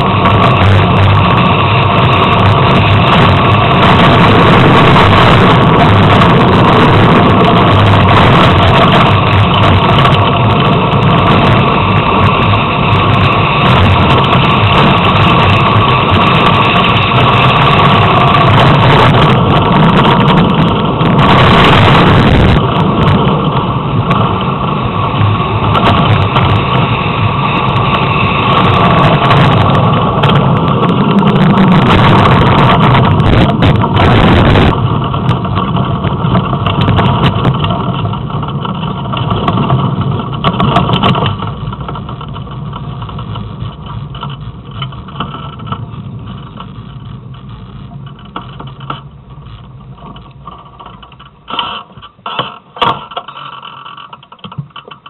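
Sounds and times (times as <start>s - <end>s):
cart wheels rumbling on asphalt: 0.0s - 55.0s.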